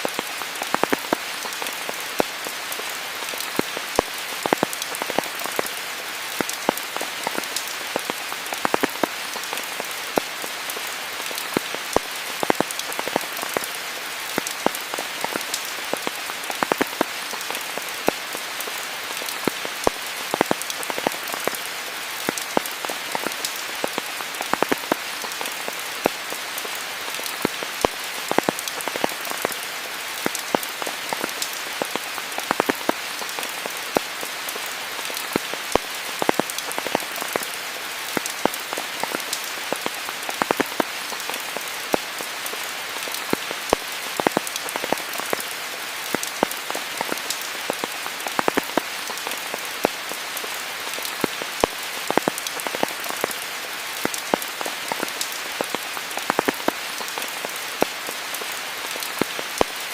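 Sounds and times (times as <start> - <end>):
raindrops ticking close by: 0.0 - 59.9
steady rain hiss: 0.0 - 59.9.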